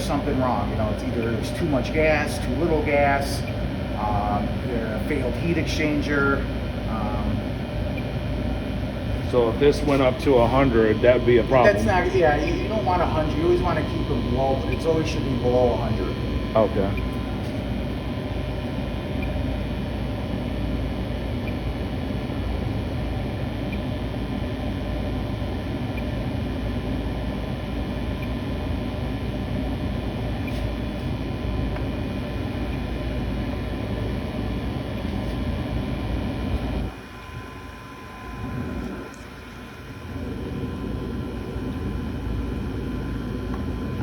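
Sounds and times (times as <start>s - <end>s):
gas furnace running: 0.0s - 44.0s.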